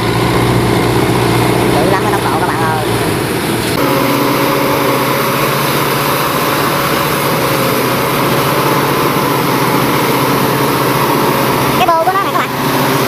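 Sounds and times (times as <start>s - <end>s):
combine harvester engine droning: 0.0s - 13.0s.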